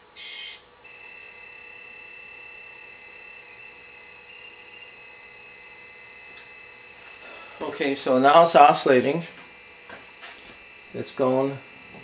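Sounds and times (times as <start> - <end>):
high-pitched electronic whine: 0.0 - 12.0.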